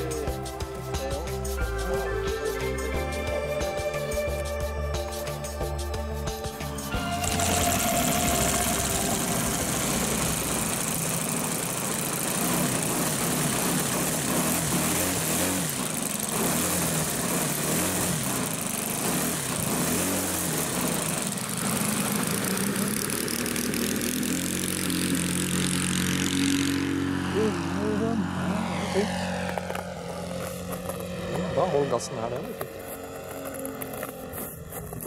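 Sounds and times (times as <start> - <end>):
model plane engine running rough: 6.6 - 35.0.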